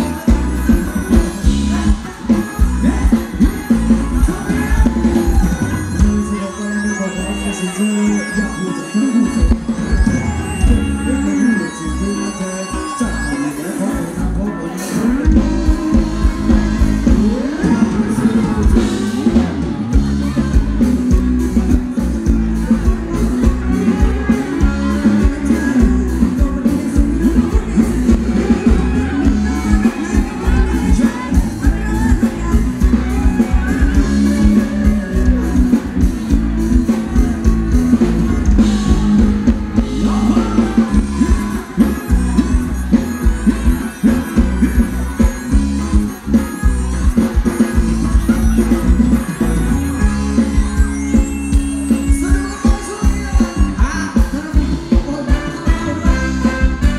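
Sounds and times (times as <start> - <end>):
drum kit beat: 0.0 - 6.4, 14.9 - 56.9
guitar: 0.0 - 56.9
live band dance music: 0.0 - 56.9.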